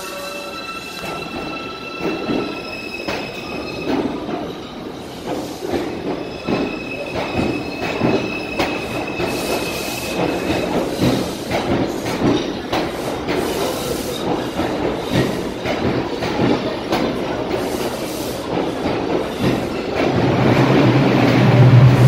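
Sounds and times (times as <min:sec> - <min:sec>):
train wheels knocking over rail joints: 0:01.1 - 0:22.0.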